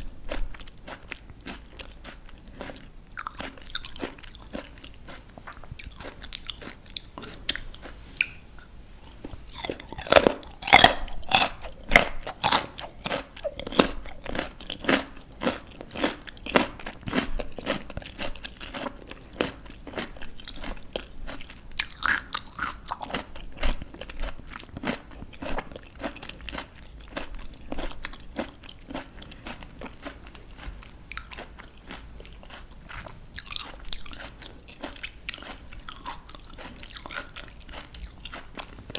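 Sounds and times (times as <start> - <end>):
crunching raw vegetables: 0.0 - 38.9.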